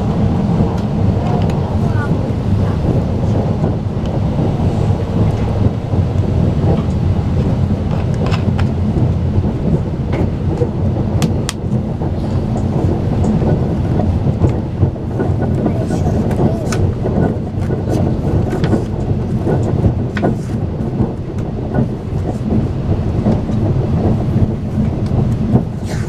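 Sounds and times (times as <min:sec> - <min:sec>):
low rumble of wheels and track: 0:00.0 - 0:26.0.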